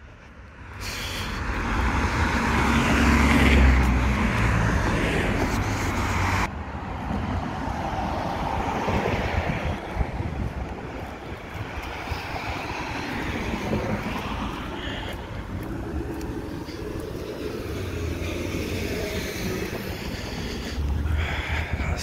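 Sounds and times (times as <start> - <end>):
passing cars: 0.0 - 22.0.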